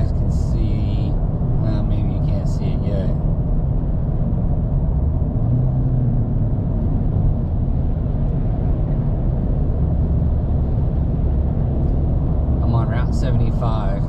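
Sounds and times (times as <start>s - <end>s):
car road noise in cabin: 0.0s - 14.0s.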